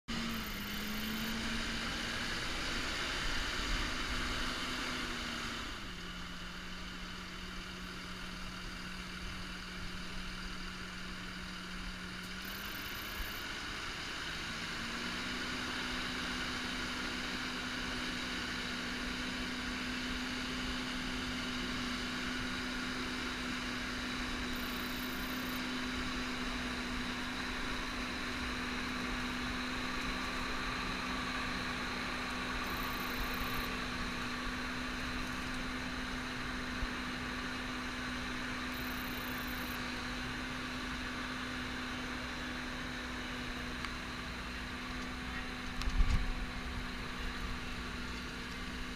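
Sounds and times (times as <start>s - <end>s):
tractor engine running: 0.1s - 48.9s.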